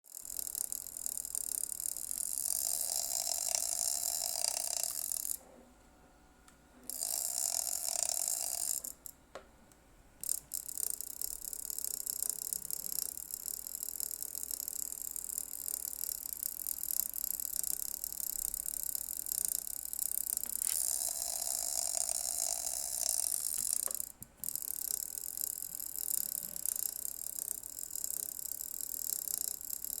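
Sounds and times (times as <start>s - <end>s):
projector high-pitched ratcheting noise: 0.1s - 5.4s, 6.9s - 9.2s, 10.2s - 30.0s.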